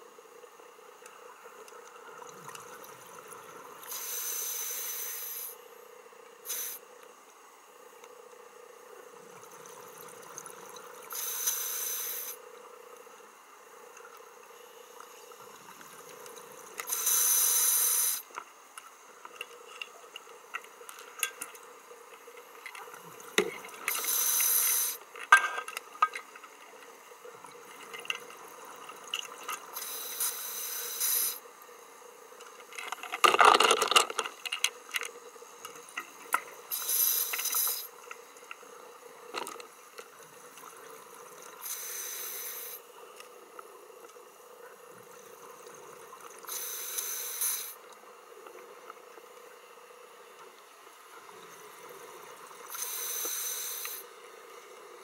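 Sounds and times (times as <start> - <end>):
regulator bubbles hissing underwater: 0.0 - 33.2, 33.8 - 55.0
faint steady hum: 0.0 - 55.0.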